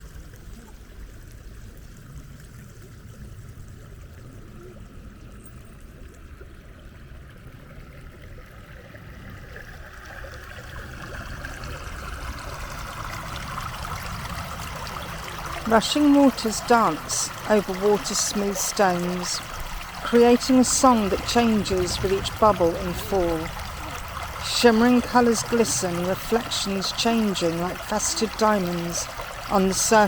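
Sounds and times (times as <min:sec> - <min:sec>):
stream bubbling over stones: 0:00.0 - 0:30.0.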